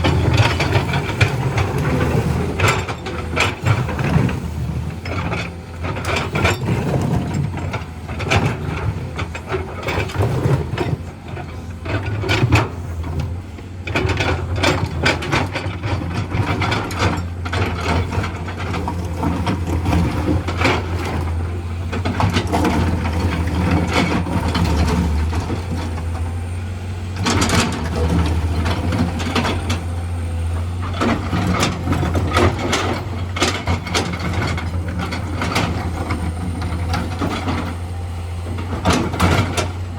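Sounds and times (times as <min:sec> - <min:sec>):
clanks and scrapes of metal and rock: 0:00.0 - 0:39.9
excavator diesel engine running: 0:00.0 - 0:39.9.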